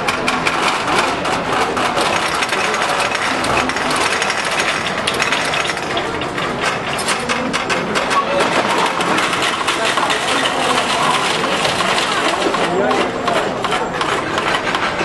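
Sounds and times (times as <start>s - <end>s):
balls clattering on metal rails: 0.0s - 15.0s.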